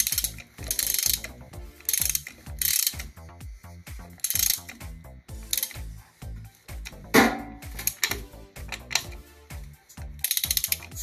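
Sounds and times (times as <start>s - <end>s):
ratchet wrench clicking: 0.0s - 3.3s, 3.9s - 11.0s.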